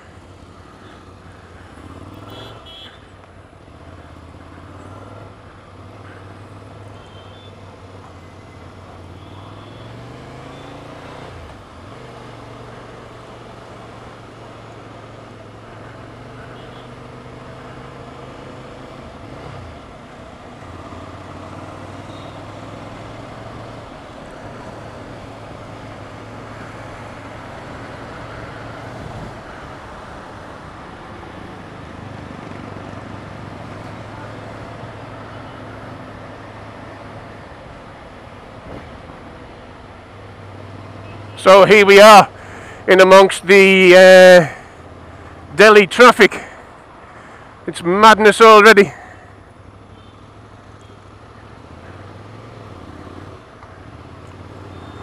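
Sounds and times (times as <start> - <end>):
road traffic hiss: 0.0 - 55.0.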